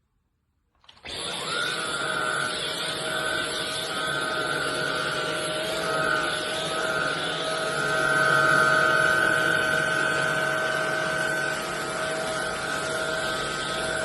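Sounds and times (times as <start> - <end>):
stick vacuum running: 0.8 - 14.0.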